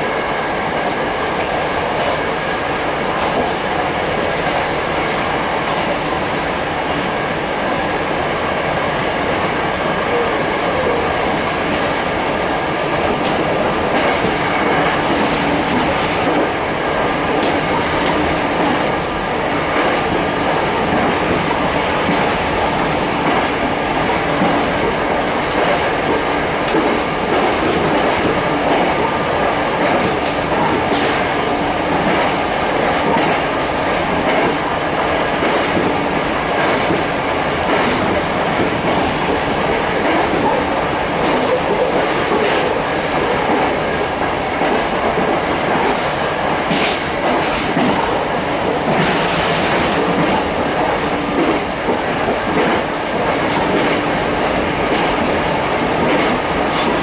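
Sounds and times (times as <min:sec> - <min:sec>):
train running noise: 0:00.0 - 0:57.0.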